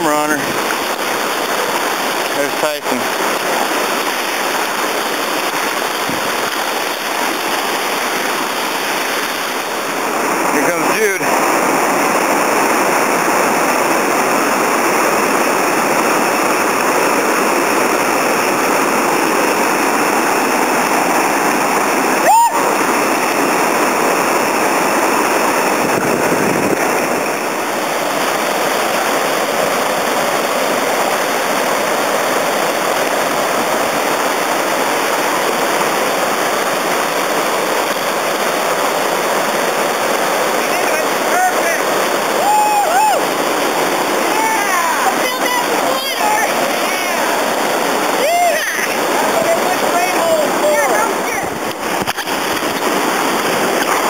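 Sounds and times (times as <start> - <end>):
river rapids roaring: 0.0 - 54.0.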